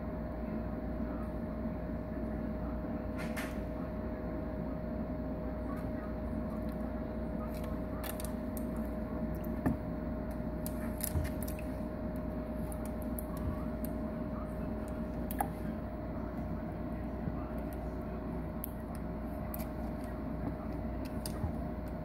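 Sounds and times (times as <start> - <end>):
aquarium equipment hum: 0.0 - 22.0.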